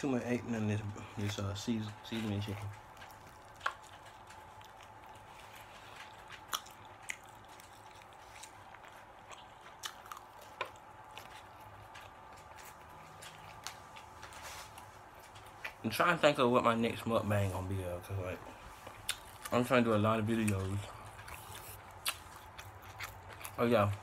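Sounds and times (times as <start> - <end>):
person chewing food: 0.5 - 15.9, 17.3 - 24.0.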